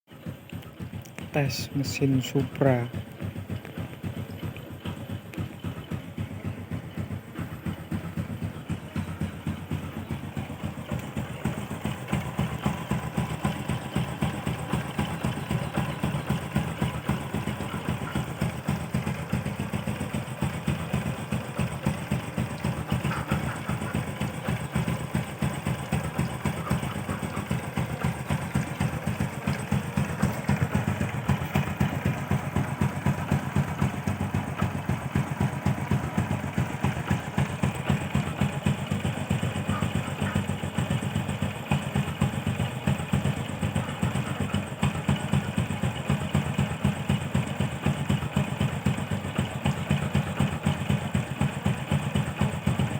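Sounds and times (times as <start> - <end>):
motorcycle engine idling: 0.1 - 52.9.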